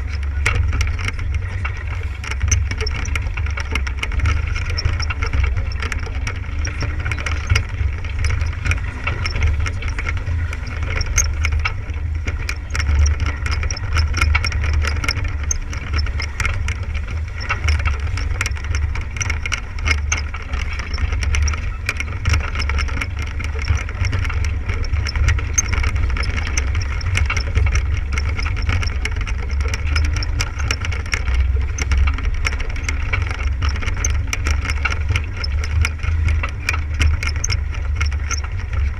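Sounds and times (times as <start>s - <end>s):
light clicking rattles: 0.0s - 38.9s
water rushing along hull: 0.0s - 38.9s
wind buffeting microphone: 0.0s - 38.9s.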